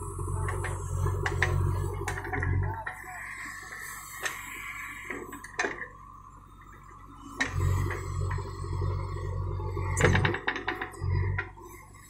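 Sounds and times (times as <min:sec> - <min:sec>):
backhoe diesel engine whining: 0:00.0 - 0:12.0.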